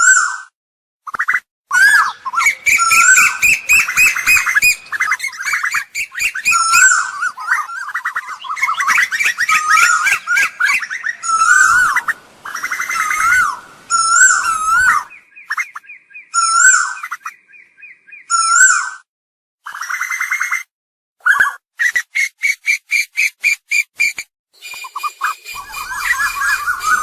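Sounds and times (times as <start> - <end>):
bird calls whistling and chattering: 1.1 - 18.9, 21.2 - 27.0.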